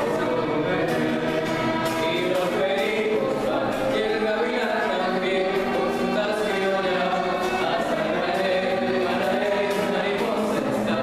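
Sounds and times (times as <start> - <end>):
bowed violin: 0.0 - 11.0
men singing together: 0.0 - 11.0
strummed cuatro: 0.0 - 11.0.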